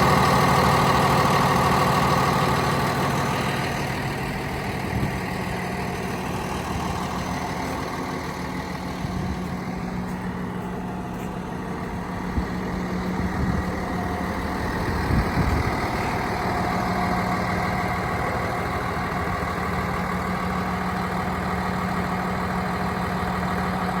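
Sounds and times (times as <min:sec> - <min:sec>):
bulldozer diesel engine idling: 0:00.0 - 0:24.0.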